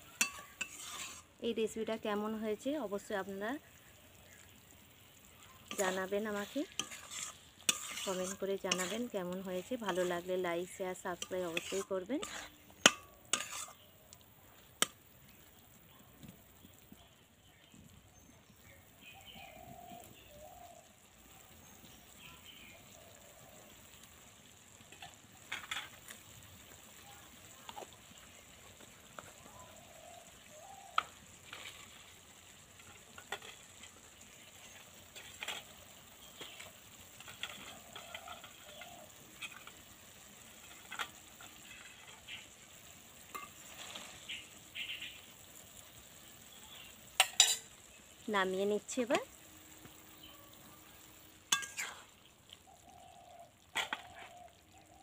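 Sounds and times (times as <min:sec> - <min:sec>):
curry sizzling in oil: 0:00.0 - 0:55.0.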